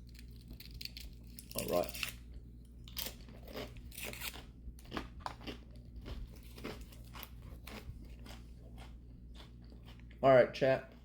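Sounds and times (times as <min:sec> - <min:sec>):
crunching and chewing cookie: 0:00.0 - 0:11.0.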